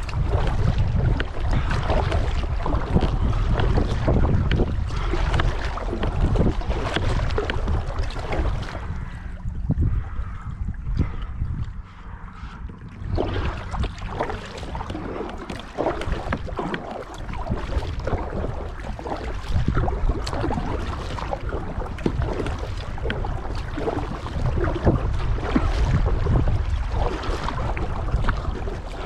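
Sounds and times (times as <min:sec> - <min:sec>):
paddle splashing in water: 0:00.0 - 0:29.0
wind rumble on microphone: 0:00.0 - 0:29.0.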